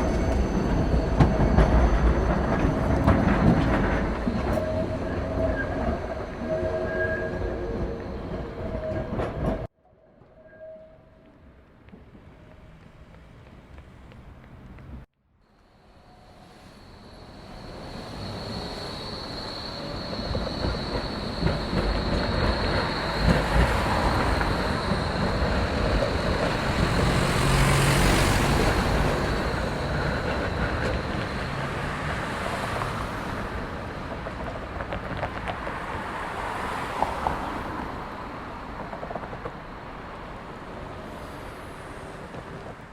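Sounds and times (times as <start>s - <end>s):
train passing: 0.0s - 42.9s.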